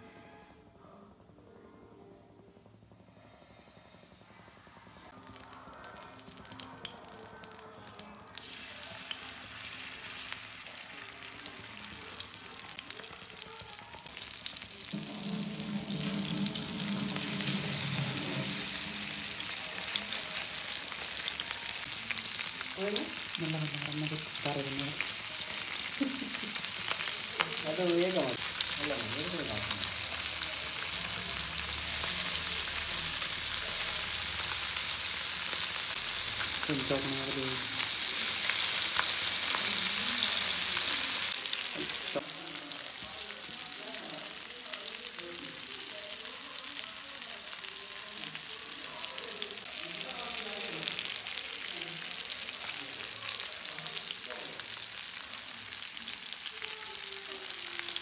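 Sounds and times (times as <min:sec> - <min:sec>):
fish frying in oil: 0:05.1 - 0:58.0.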